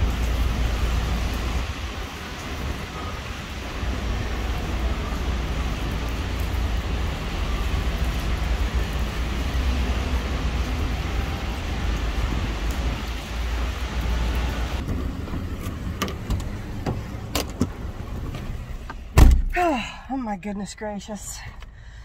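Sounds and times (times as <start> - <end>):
traffic on a wet street: 0.0 - 22.0.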